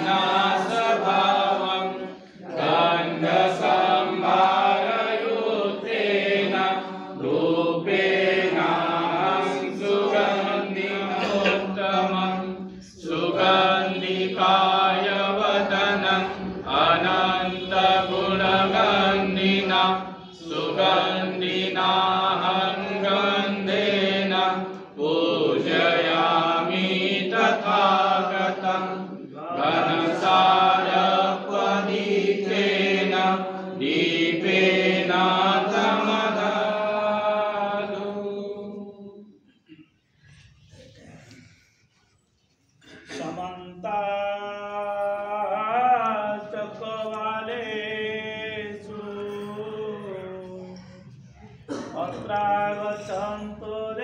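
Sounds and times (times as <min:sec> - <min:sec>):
devotional chanting: 0:00.0 - 0:54.0.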